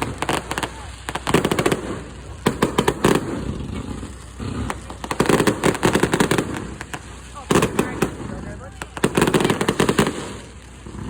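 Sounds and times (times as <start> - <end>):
fireworks pops and crackles: 0.0 - 11.0.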